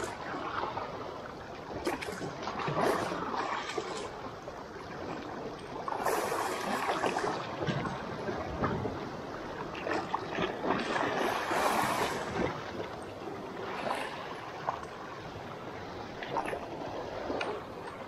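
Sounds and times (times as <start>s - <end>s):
small waves lapping over rocks: 0.0s - 15.3s.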